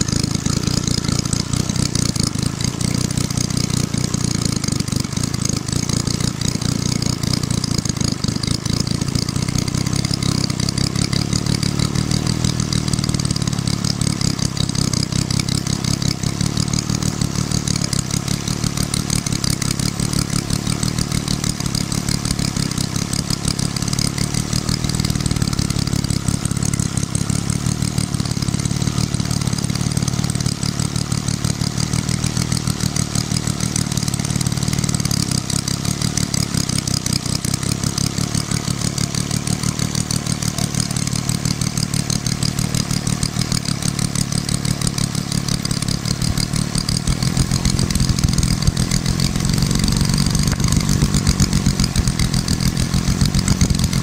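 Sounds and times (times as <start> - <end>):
model diesel engine running: 0.0 - 54.0.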